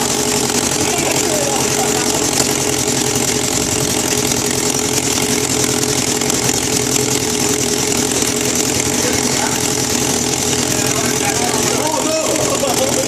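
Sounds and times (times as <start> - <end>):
race car engine rasping: 0.0 - 13.0.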